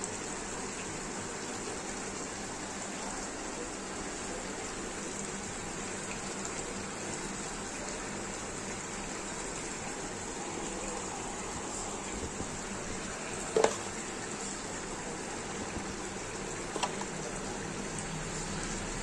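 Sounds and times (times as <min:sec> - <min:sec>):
food sizzling and simmering: 0:00.0 - 0:19.0.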